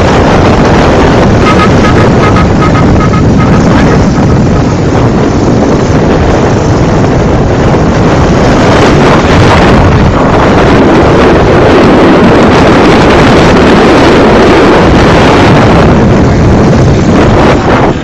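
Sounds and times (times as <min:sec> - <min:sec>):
rumble of road traffic: 0:00.0 - 0:18.0
wind rushing over microphone: 0:00.0 - 0:18.0.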